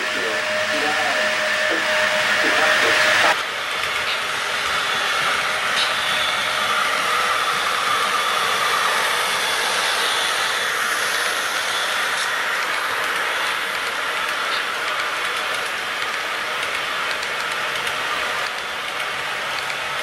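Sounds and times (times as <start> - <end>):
louder tonal whir: 0.0 - 17.2
model train motors whirring: 0.0 - 20.0.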